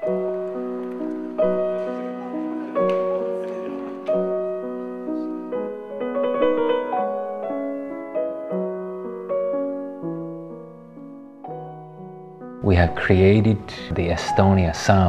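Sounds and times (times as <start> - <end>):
slow classical piano melody: 0.0 - 15.0.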